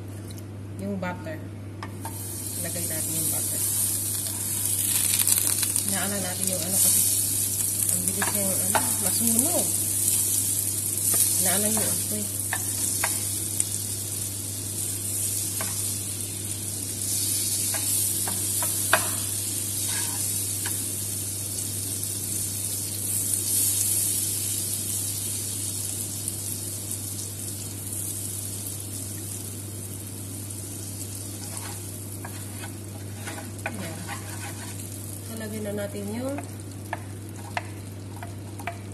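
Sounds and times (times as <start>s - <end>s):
butter sizzling in a frying pan: 2.0s - 38.9s.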